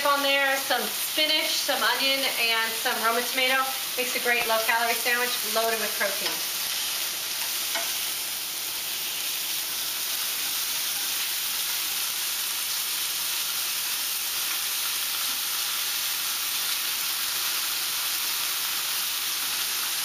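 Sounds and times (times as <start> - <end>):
patties sizzling in frying pans: 0.0 - 20.0.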